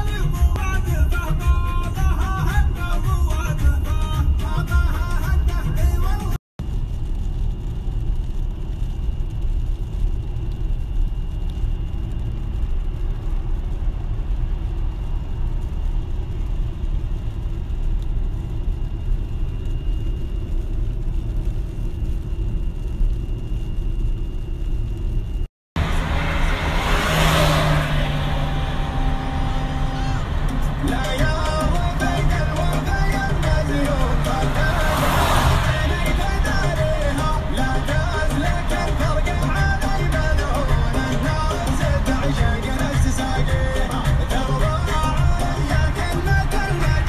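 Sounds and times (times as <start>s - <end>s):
car road and engine rumble: 0.0s - 47.0s.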